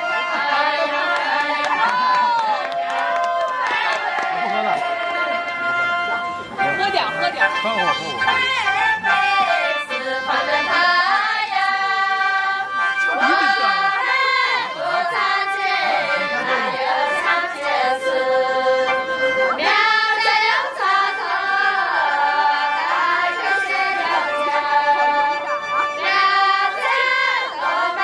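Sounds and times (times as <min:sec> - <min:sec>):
women singing together: 0:00.0 - 0:06.3, 0:08.4 - 0:28.0.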